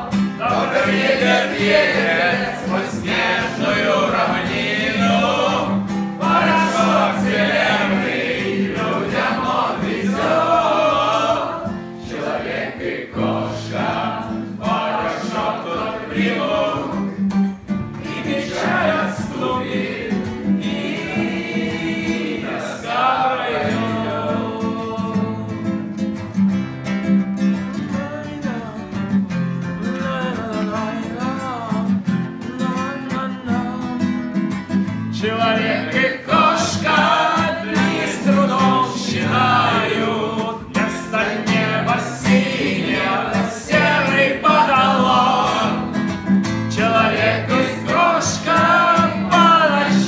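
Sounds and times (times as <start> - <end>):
group singing in chorus: 0.0 - 25.9, 35.1 - 50.0.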